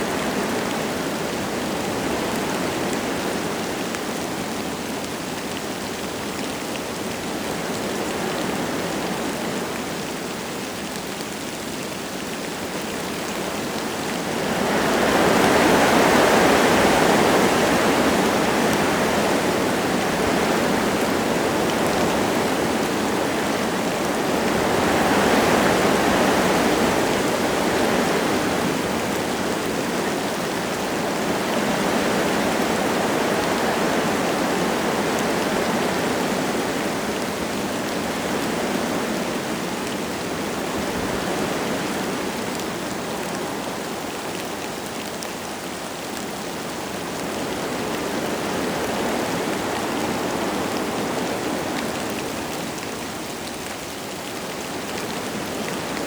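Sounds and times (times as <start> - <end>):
light rain falling: 0.0 - 56.0
wind gusting through trees: 0.0 - 56.0.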